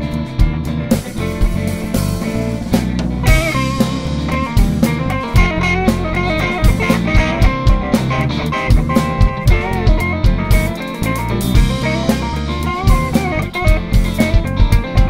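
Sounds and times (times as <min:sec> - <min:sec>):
bass: 0:00.0 - 0:15.0
drum kit beat: 0:00.0 - 0:15.0
electric guitar melody: 0:00.0 - 0:15.0.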